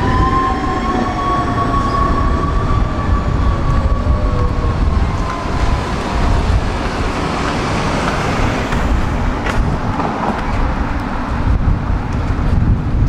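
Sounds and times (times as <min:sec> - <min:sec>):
tram rumble: 0:00.0 - 0:13.0.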